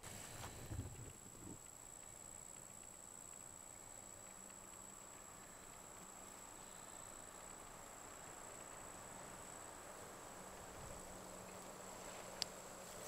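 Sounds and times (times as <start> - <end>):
high-pitched insect song: 1.6 - 13.0.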